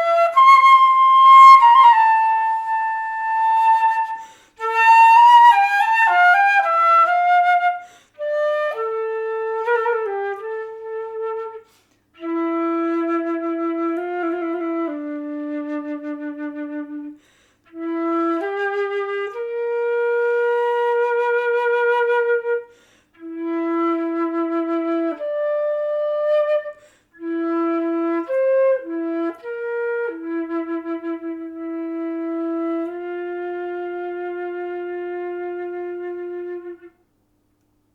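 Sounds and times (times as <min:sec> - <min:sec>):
solo flute long held notes: 0:00.0 - 0:37.1.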